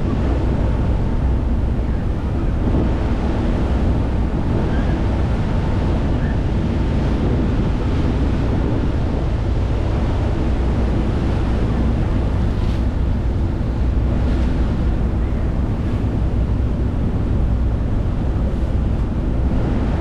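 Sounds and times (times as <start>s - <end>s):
rushing sea water: 0.0s - 20.0s
steady low rumble: 0.0s - 20.0s
wind buffeting microphone: 0.0s - 20.0s.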